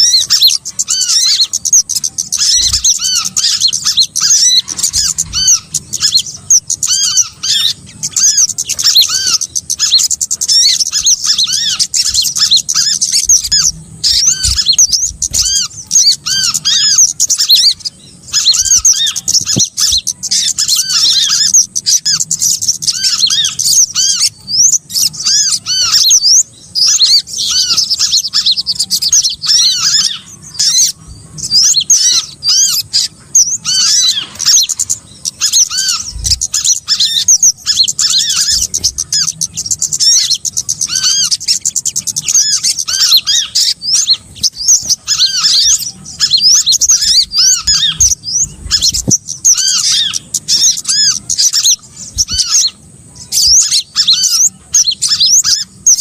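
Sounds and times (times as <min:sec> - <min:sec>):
faint low hum: 0:00.0 - 0:56.0
songbirds chirping: 0:00.0 - 0:56.0.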